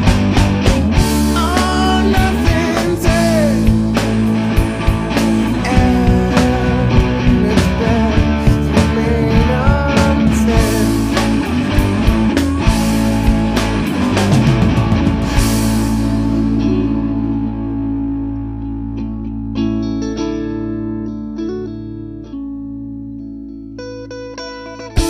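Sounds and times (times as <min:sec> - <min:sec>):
gliding electric guitar lead: 0:00.0 - 0:25.0
rock band playing: 0:00.0 - 0:25.0.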